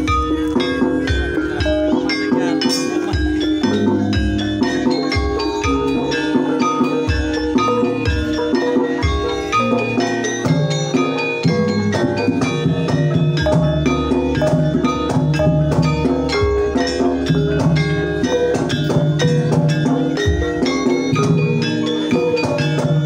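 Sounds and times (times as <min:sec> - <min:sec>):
hand drum strokes: 0:00.0 - 0:23.0
mallet-struck keyed instruments: 0:00.0 - 0:23.0.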